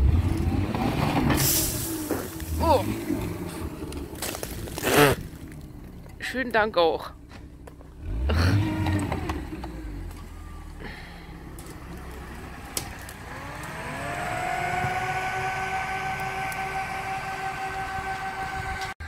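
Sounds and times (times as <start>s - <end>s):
car engine revving: 0.0s - 6.2s, 7.2s - 19.0s.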